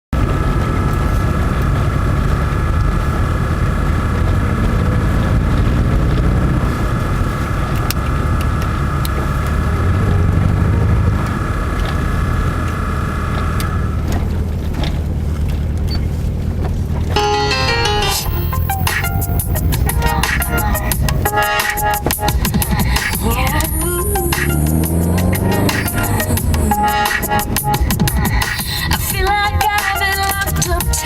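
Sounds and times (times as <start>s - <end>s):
loud car engine running: 0.1s - 17.3s, 18.2s - 31.0s
high whine: 0.2s - 14.2s, 17.1s - 31.0s.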